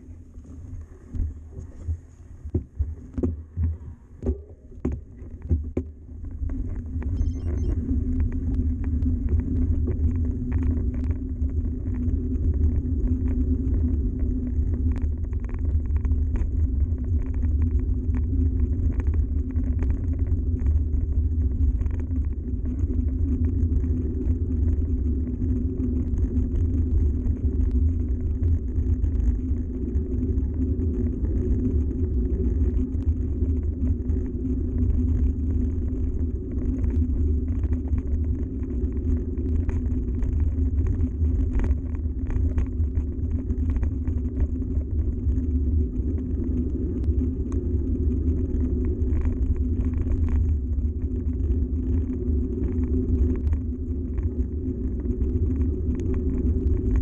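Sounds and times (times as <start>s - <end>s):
bike tyres rumbling on gravel: 7.8s - 57.0s.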